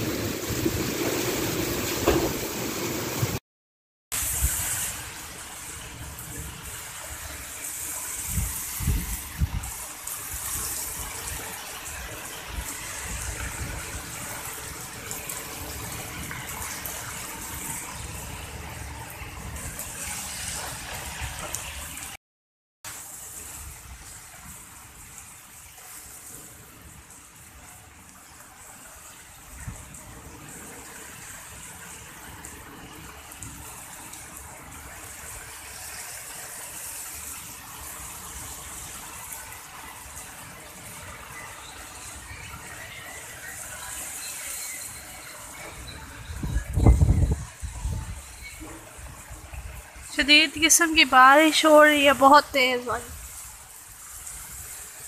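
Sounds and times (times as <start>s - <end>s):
heavy rain pouring: 0.0s - 3.4s, 4.1s - 22.2s, 22.9s - 55.0s.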